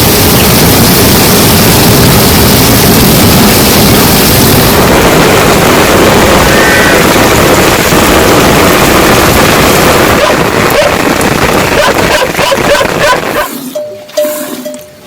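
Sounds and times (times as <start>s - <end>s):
heavy rain pouring: 0.0s - 13.4s.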